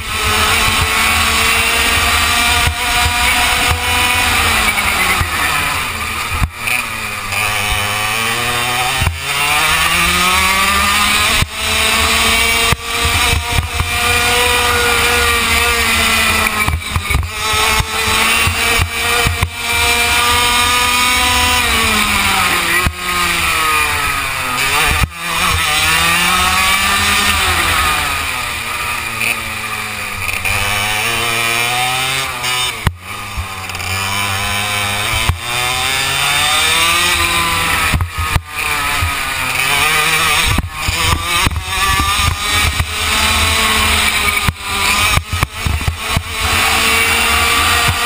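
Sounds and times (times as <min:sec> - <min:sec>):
kart engine revving: 0:00.0 - 0:48.0.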